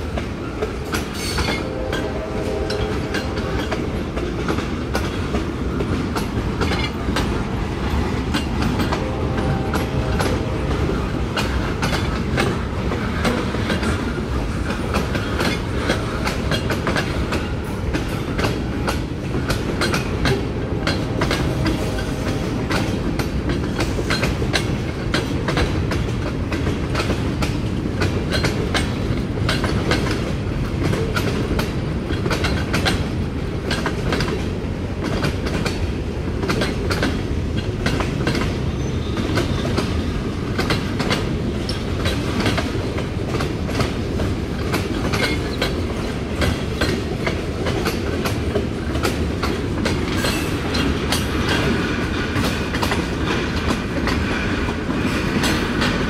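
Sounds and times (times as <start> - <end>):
train wheels rolling on rails: 0.0 - 56.0
wheels clacking over rail joints: 0.0 - 56.0.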